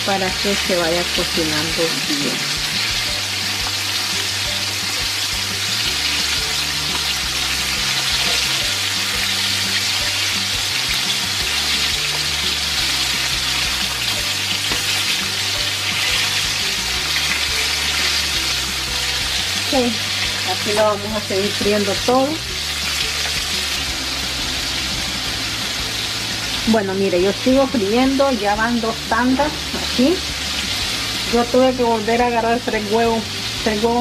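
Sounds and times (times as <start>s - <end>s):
chicken frying in hot oil: 0.0s - 34.0s.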